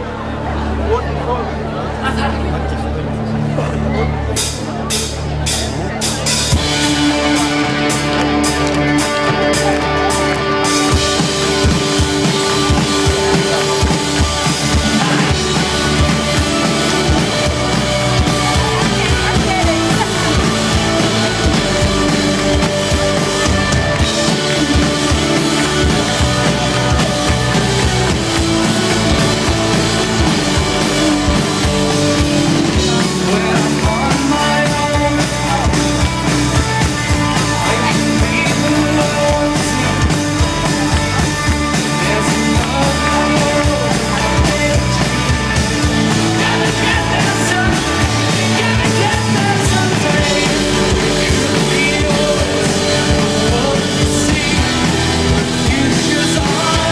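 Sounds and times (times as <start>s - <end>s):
electric guitars: 0.0s - 56.9s
rock band playing: 0.0s - 56.9s
drum kit: 4.3s - 56.9s.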